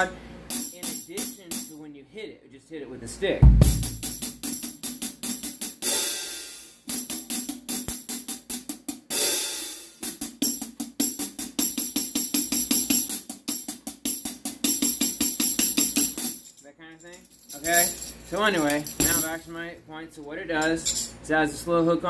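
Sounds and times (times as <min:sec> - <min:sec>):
hi-hat with tambourine jingles: 0:00.0 - 0:01.9, 0:03.7 - 0:19.5, 0:20.6 - 0:21.3.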